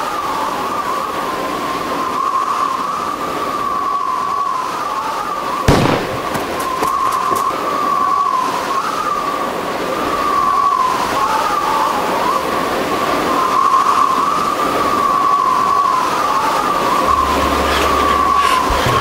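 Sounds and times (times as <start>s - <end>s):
blizzard wind whistling: 0.0s - 19.0s.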